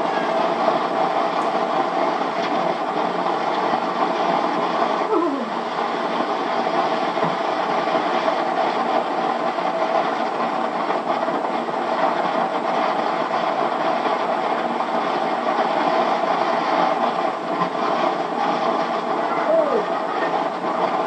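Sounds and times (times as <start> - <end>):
floodwater pouring down hillside: 0.0 - 21.0
heavy rain: 0.0 - 21.0.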